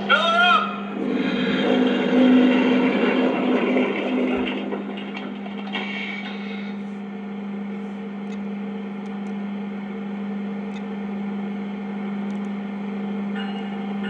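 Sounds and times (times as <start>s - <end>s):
pump hum from small speaker: 0.0s - 14.0s.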